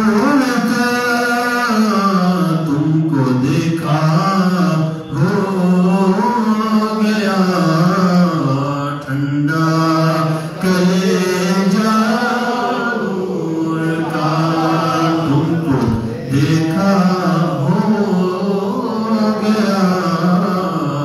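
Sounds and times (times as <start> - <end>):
man chanting: 0.0 - 21.0.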